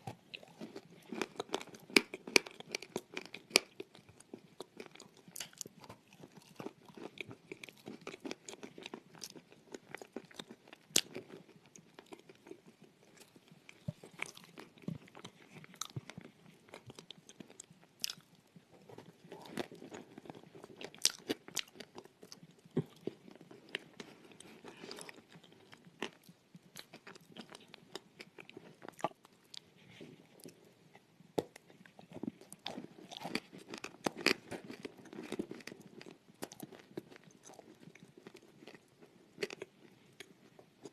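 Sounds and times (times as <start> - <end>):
close chewing crunches: 0.0 - 40.9.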